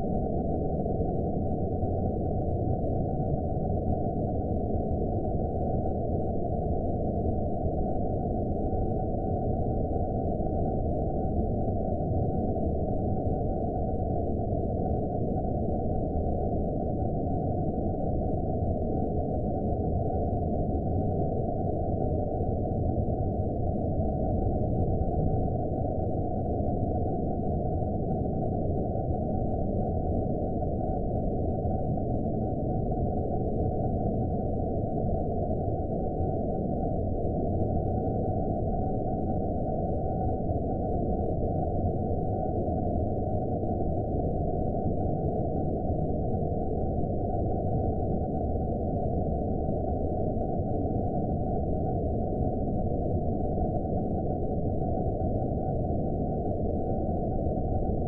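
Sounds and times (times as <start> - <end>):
dark low noise drone: 0.0 - 58.0.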